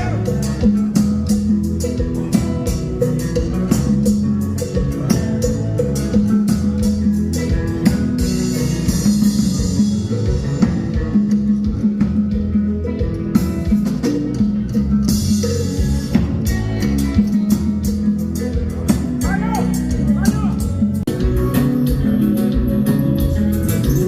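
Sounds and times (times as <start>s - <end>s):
guitar and drums music: 0.0s - 24.0s.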